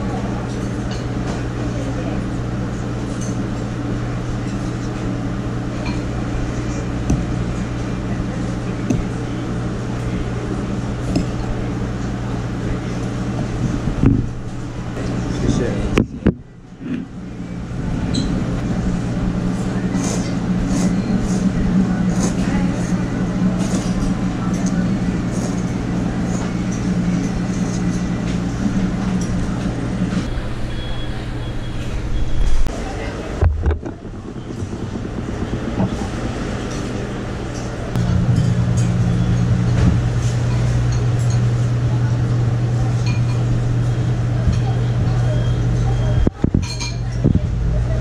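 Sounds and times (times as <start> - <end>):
low mechanical hum: 0.0 - 48.0
noisy room background: 0.0 - 48.0.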